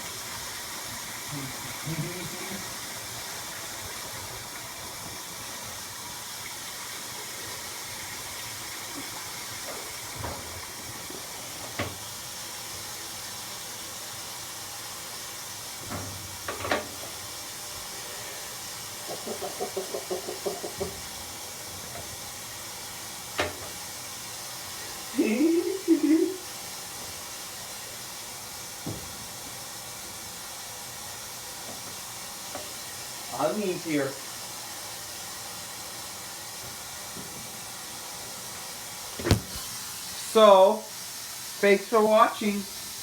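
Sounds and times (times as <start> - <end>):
water spraying into washer tub: 0.0 - 43.0.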